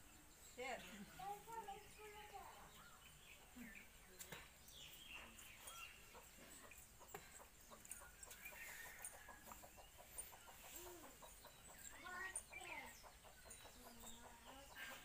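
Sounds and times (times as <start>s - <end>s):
chickens clucking: 1.2s - 15.0s.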